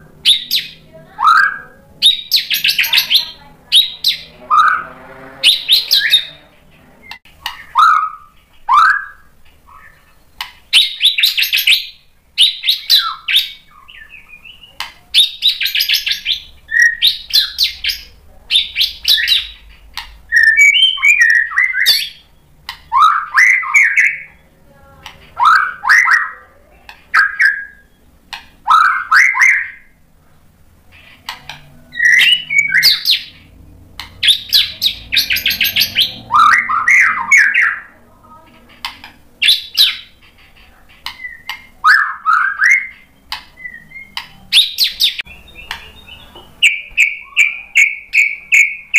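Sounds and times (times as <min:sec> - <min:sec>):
bird singing whistles and trills: 0:00.2 - 0:04.8, 0:05.4 - 0:06.4, 0:07.0 - 0:19.6, 0:20.3 - 0:24.6, 0:25.4 - 0:26.5, 0:27.1 - 0:28.1, 0:28.7 - 0:29.9, 0:31.9 - 0:33.5, 0:34.2 - 0:37.9, 0:39.4 - 0:40.2, 0:41.1 - 0:48.9.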